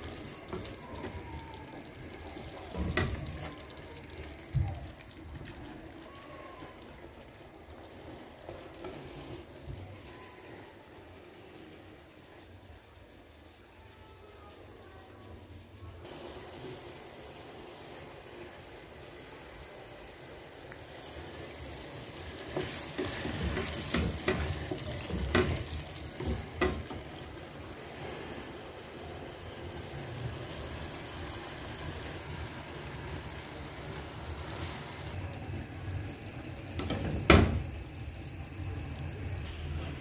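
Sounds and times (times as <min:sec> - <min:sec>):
curry sizzling in a pan: 0:00.0 - 0:40.0.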